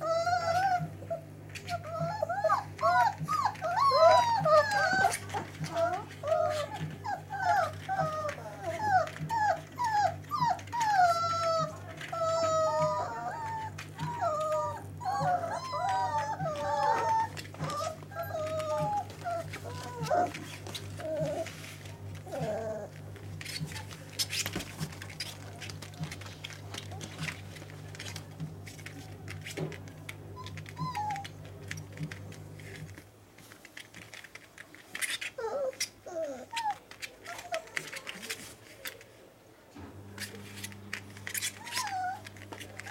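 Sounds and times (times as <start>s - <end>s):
puppies whining: 0.0s - 33.0s, 33.7s - 39.0s, 40.0s - 42.9s
clicks and scratches: 1.5s - 39.2s, 40.0s - 42.9s.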